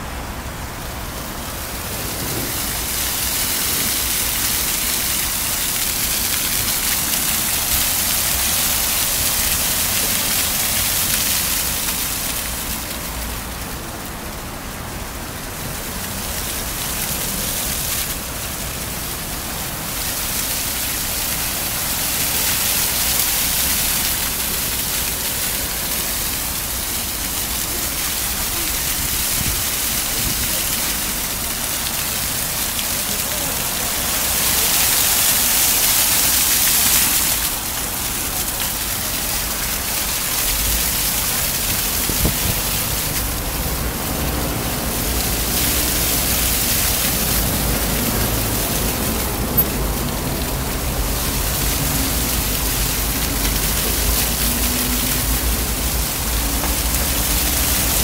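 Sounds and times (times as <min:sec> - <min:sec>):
fountain water splashing on paving: 0:00.0 - 0:58.0.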